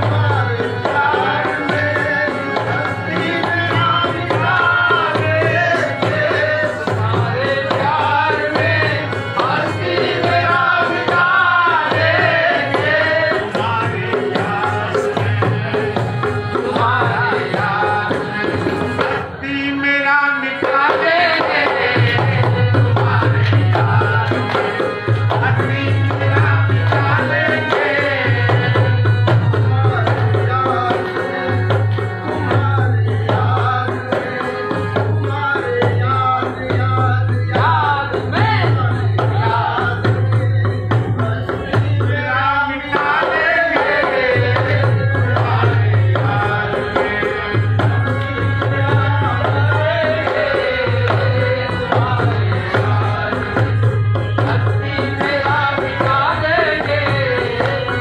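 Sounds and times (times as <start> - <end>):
harmonium: 0.0 - 58.0
man singing: 0.0 - 58.0
percussion rhythm: 0.0 - 58.0.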